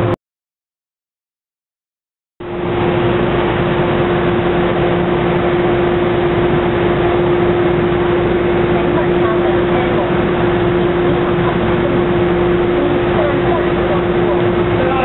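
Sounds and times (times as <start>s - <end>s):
train mechanical hum with tone: 2.4s - 15.0s.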